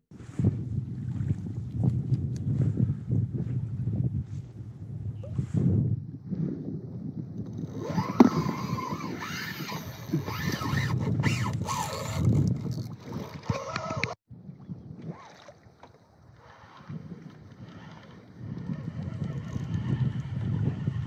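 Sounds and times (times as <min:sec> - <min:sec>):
wind noise: 0:00.1 - 0:15.6, 0:16.4 - 0:21.0
water noise: 0:00.1 - 0:21.0.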